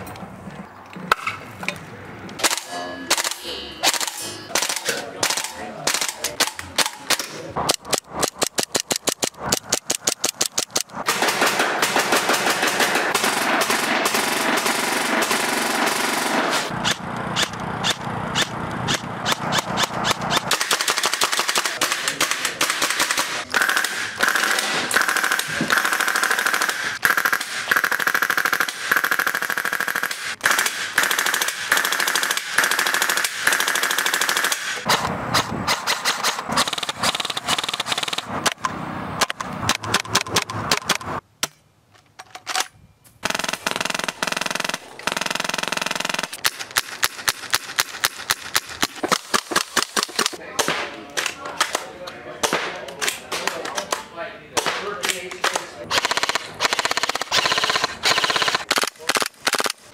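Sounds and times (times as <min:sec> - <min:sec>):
airsoft guns firing rapid shots: 0:02.4 - 0:38.5, 0:43.2 - 0:51.8, 0:54.6 - 0:59.9.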